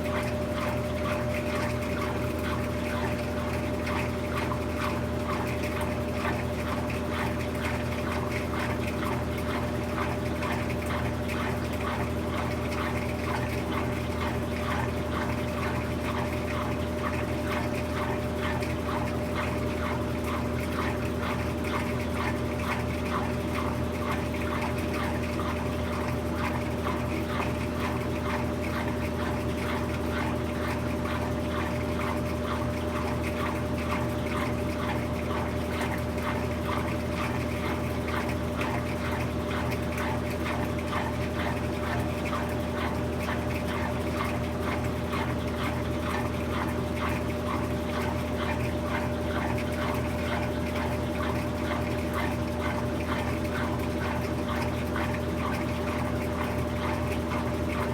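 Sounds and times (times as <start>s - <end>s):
washing machine motor hum: 0.0s - 57.9s
water patter and rattle: 9.4s - 57.9s.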